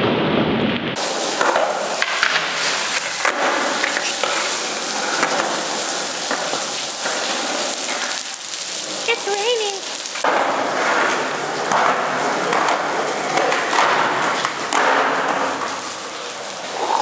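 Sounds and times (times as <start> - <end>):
skateboard wheels hissing: 1.0 - 17.0
skateboard clicks and knocks: 1.1 - 8.3, 10.2 - 16.6.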